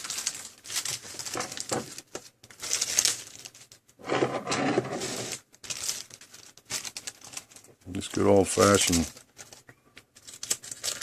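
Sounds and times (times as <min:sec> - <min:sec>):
tape and wrapping crinkling: 0:00.0 - 0:04.1, 0:04.7 - 0:11.0.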